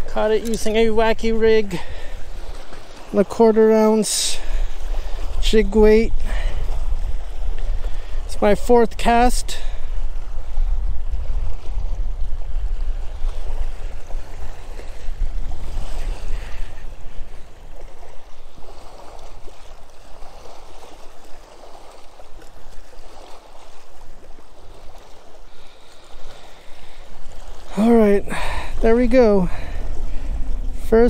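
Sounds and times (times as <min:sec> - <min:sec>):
small waves lapping on rocks: 0:00.0 - 0:31.0
wind noise on microphone: 0:04.3 - 0:31.0.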